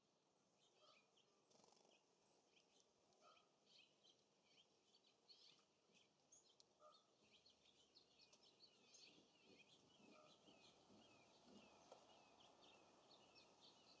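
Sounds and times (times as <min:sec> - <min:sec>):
small songbirds chirping: 0:00.0 - 0:14.0.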